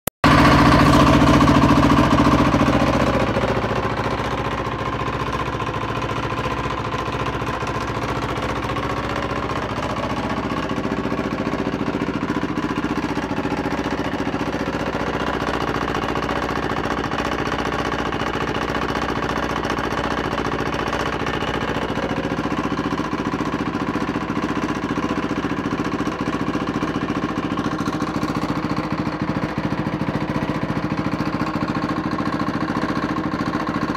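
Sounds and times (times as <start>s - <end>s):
engine knocking: 0.2s - 33.9s
motorcycle engine idling: 0.2s - 33.9s.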